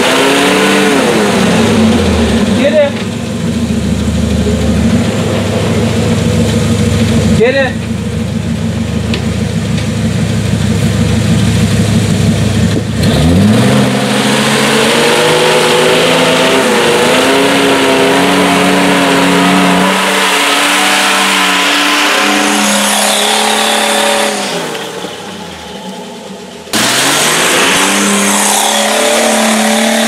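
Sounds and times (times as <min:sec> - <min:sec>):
engine revving under heavy throttle: 0:00.0 - 0:30.0.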